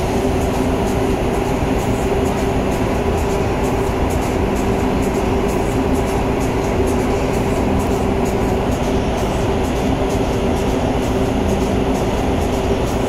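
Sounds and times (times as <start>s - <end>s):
ship engine droning: 0.0s - 13.0s.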